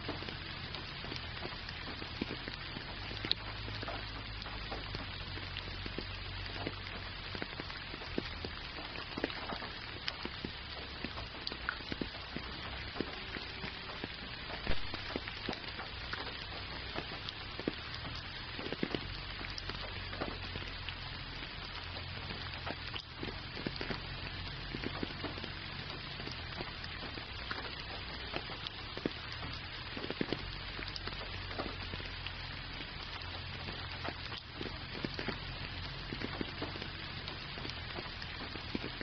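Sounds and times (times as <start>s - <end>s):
gentle rain hiss: 0.0s - 39.0s
raindrops ticking: 0.0s - 39.0s.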